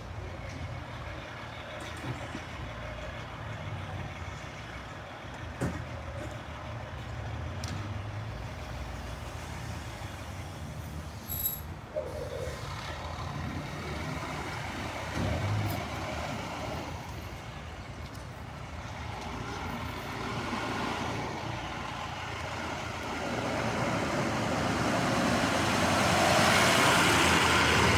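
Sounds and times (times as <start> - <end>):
emergency vehicle engines running: 0.0 - 27.9
vehicle approaching: 0.0 - 27.9.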